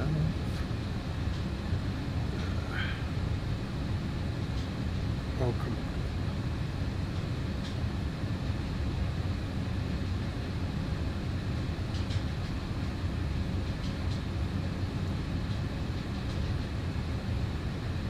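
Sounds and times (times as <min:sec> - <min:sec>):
low ventilation rumble: 0:00.0 - 0:18.0.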